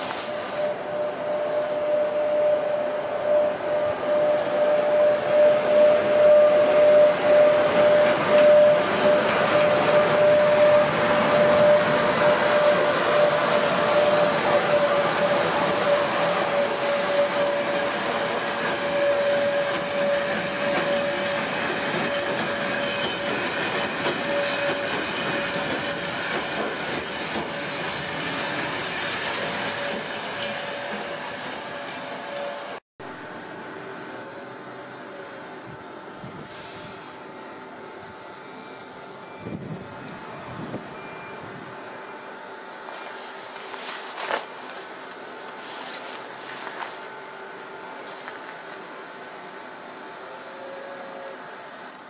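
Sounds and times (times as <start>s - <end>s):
freight train rolling past: 0.0s - 42.8s
steady whine: 0.0s - 52.0s.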